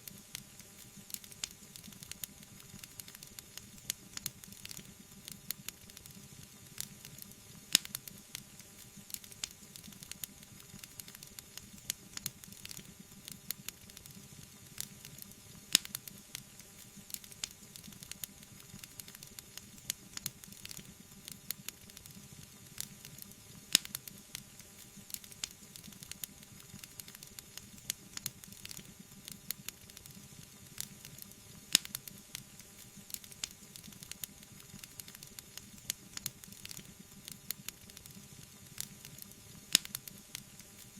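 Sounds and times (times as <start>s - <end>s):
wood fire hissing and crackling: 0.0s - 40.9s
fire popping: 0.1s - 6.2s, 6.8s - 14.2s, 17.1s - 22.2s, 25.1s - 40.4s.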